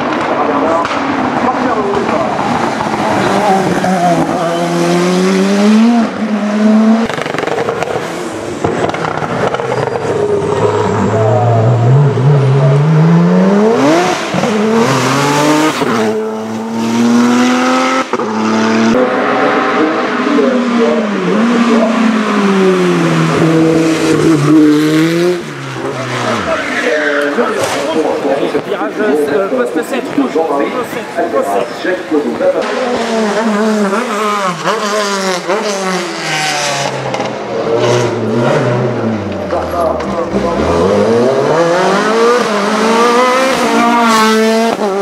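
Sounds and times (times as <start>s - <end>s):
racing car engines at full throttle: 0.0s - 45.0s.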